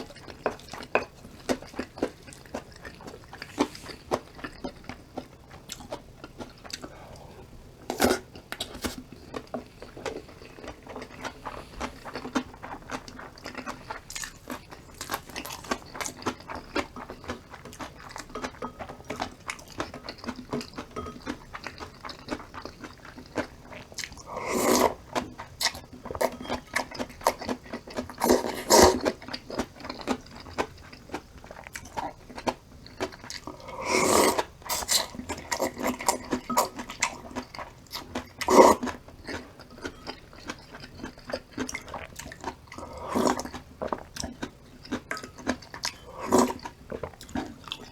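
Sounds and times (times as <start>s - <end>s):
chewing with crunches: 0.0s - 47.9s.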